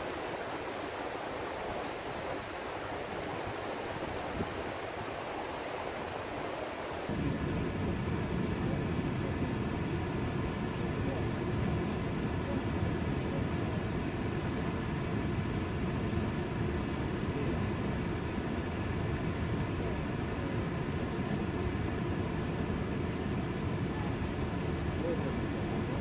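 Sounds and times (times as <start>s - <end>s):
river rushing over boulders: 0.0s - 26.0s.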